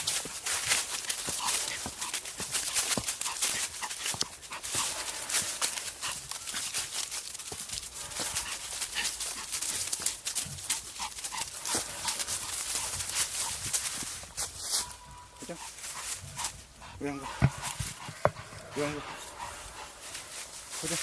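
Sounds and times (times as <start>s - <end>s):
footsteps crunching on dirt: 0.0s - 21.0s.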